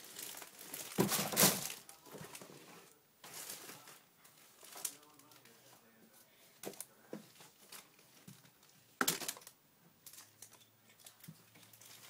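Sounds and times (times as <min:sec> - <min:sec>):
rustling handling noises: 0:00.0 - 0:12.0.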